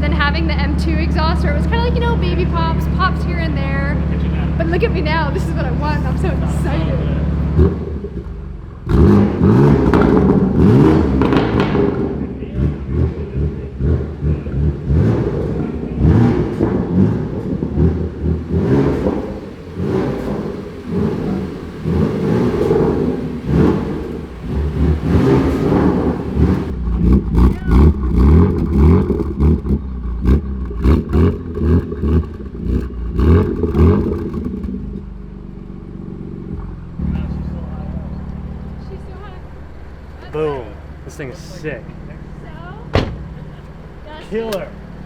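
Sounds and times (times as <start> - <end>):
car engine idling: 0.0 - 45.0
car engine revving: 0.0 - 45.0
exhaust crackles: 0.0 - 45.0.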